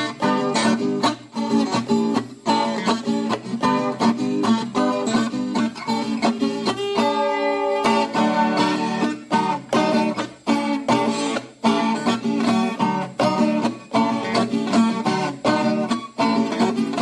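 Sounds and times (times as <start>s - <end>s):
folk guitar plucked: 0.0s - 17.0s.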